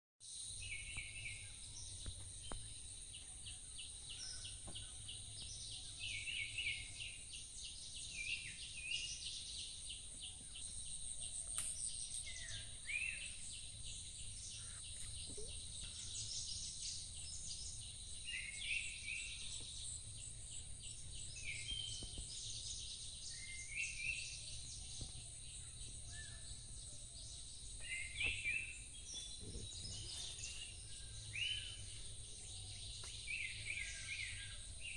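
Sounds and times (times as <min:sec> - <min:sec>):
birds calling: 0:00.6 - 0:34.9.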